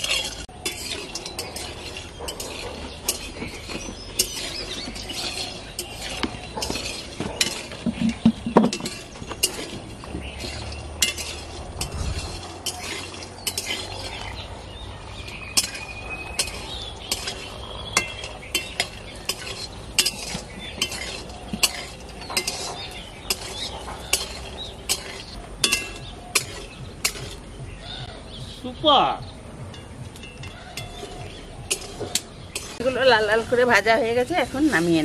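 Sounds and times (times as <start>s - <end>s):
oil sizzling: 0.0s - 27.6s, 30.1s - 35.0s
metal spatula scraping a pan: 0.0s - 28.1s, 29.7s - 35.0s.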